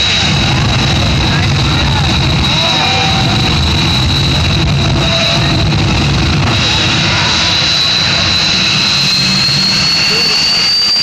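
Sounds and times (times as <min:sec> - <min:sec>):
jet engine running loud: 0:00.0 - 0:11.0.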